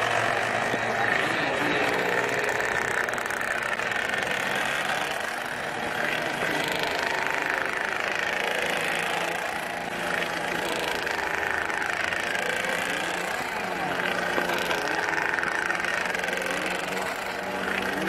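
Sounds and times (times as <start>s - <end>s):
model car engine whining: 0.0s - 18.0s.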